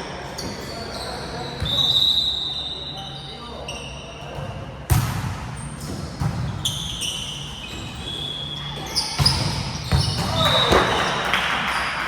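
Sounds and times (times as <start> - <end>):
shoes squeaking on court floor: 0.0 - 4.7, 5.5 - 11.2.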